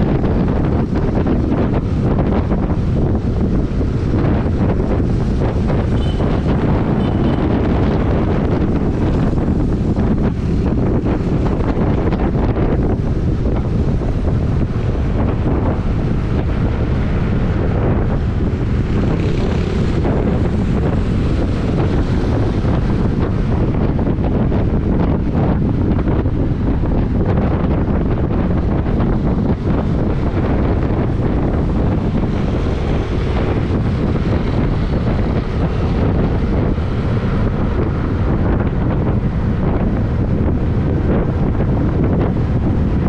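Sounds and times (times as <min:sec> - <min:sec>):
road and engine noise: 0:00.0 - 0:43.0
wind buffeting microphone: 0:00.0 - 0:43.0.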